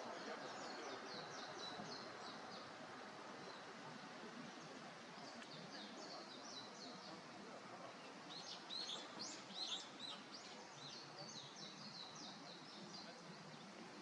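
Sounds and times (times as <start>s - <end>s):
outdoor background noise: 0.0s - 14.0s
songbird singing: 0.0s - 14.0s.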